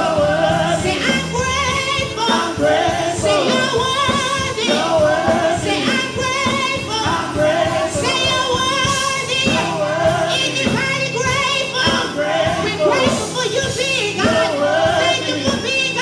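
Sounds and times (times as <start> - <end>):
band with steady beat: 0.0 - 16.0
person singing gospel: 0.0 - 16.0.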